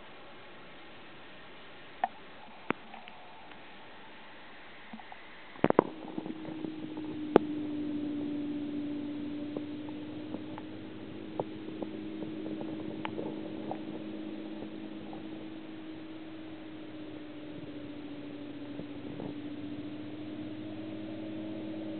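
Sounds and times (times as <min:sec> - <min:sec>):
low pump hum: 0:00.0 - 0:21.9.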